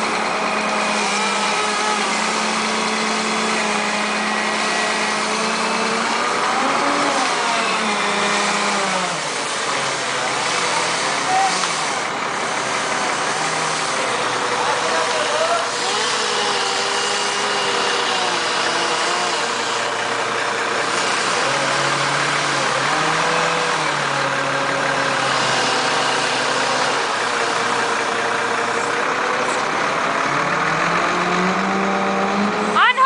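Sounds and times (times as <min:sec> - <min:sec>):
large engine idling: 0:00.0 - 0:33.0.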